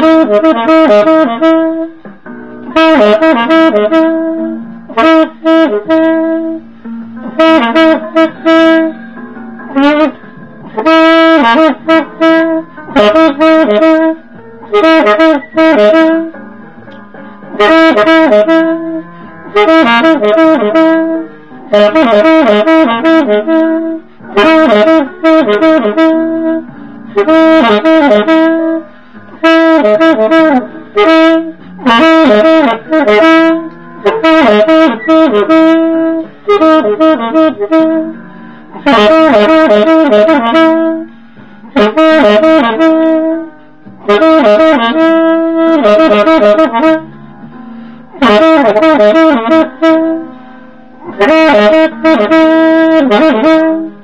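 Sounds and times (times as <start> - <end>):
alto saxophone jazz ballad: 0.0 - 16.5, 17.5 - 54.0
quiet musical accompaniment: 0.0 - 54.0.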